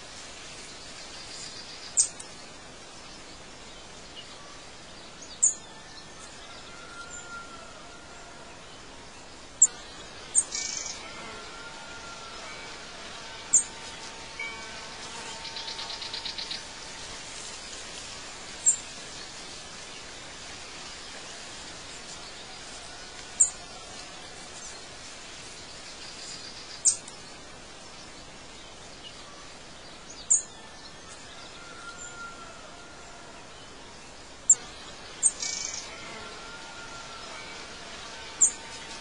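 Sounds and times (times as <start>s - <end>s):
steady background hiss: 0.0s - 39.0s.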